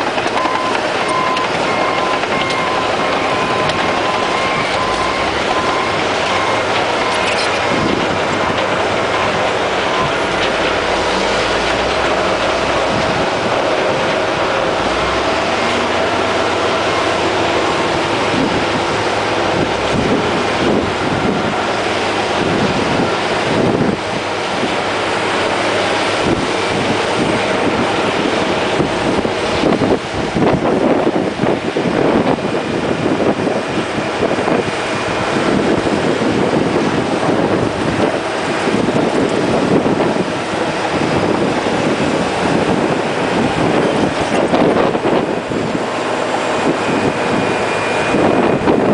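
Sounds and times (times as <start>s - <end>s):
diesel engine running: 0.0s - 48.9s
steel tracks clattering: 0.0s - 48.9s.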